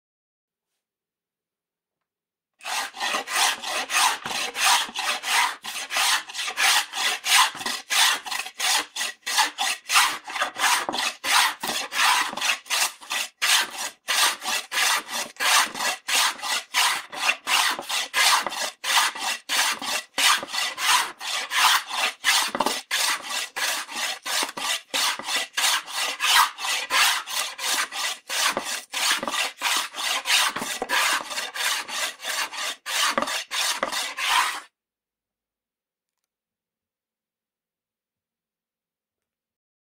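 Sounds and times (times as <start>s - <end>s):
slicer scraping strokes: 2.6s - 34.7s.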